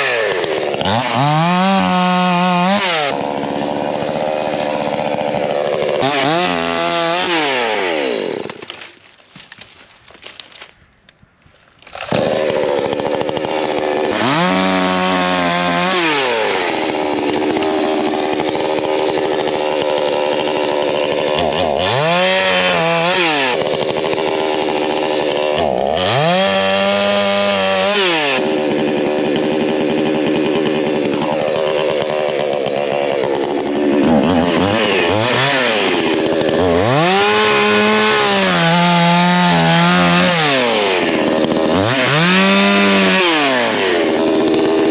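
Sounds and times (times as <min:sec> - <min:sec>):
chainsaw revving: 0:00.0 - 0:10.5, 0:11.8 - 0:44.9.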